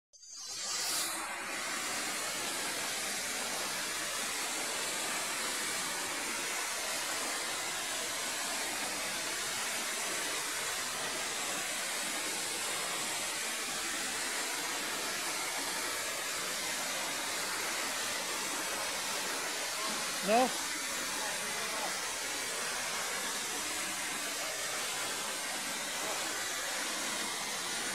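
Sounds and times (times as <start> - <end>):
waterfall rushing: 1.2 - 27.9.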